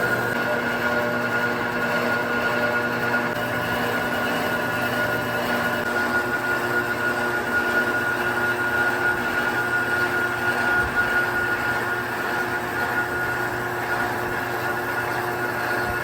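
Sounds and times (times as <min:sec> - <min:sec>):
industrial machinery drone: 0:00.0 - 0:16.0
steady machine whine: 0:00.0 - 0:16.0.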